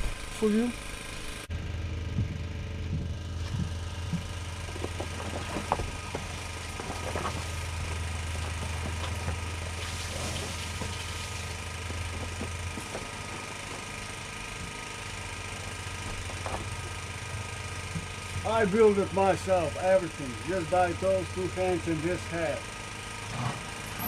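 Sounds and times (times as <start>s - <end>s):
generator engine humming: 0.0s - 24.0s.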